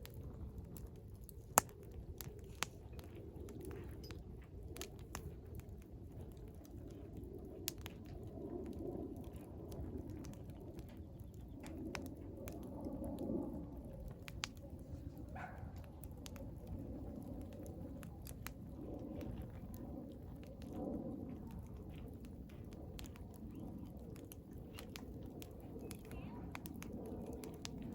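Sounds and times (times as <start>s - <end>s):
burning wood crackling and popping: 0.0s - 27.9s.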